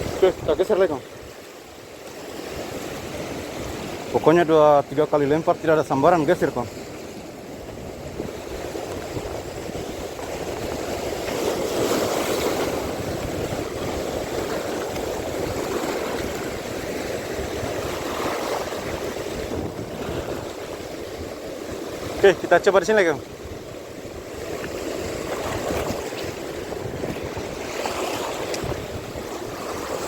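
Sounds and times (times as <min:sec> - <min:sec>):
wind on microphone: 0:00.0 - 0:01.5, 0:06.0 - 0:22.5, 0:23.1 - 0:30.0
surf washing onto shore: 0:00.0 - 0:30.0.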